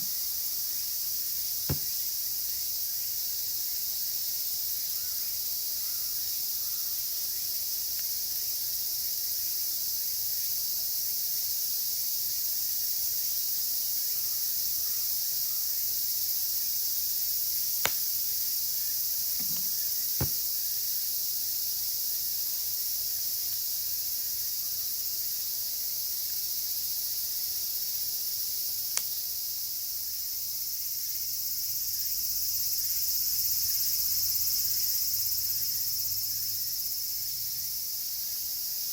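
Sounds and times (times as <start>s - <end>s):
cicadas chorus: 0.0s - 38.9s.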